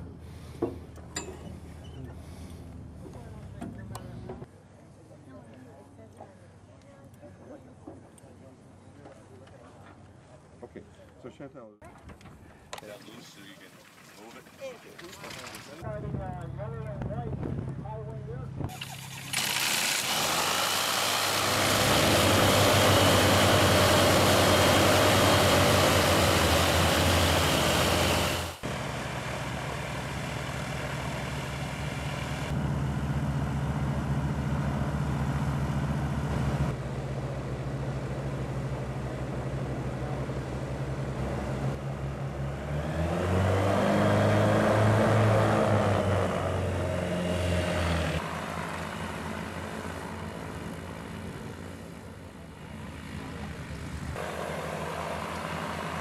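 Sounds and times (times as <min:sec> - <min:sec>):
propeller aircraft engines running: 0:00.0 - 0:04.5, 0:12.3 - 0:56.0.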